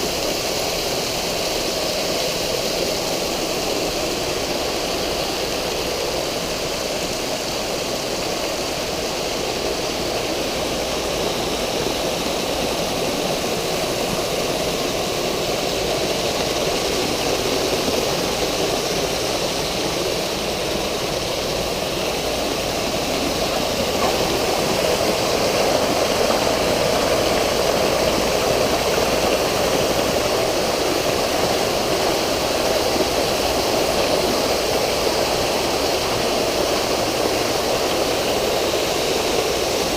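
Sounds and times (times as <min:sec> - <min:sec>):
water splashing into pool: 0:01.5 - 0:39.9.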